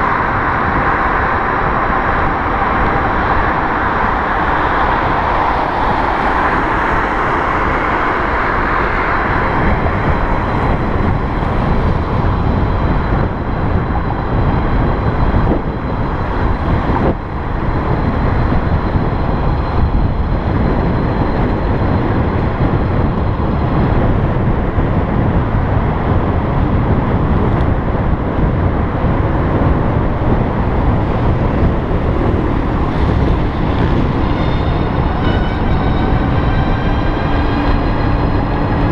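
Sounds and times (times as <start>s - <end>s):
road and traffic noise: 0.0s - 38.9s
wind on microphone: 0.0s - 38.9s.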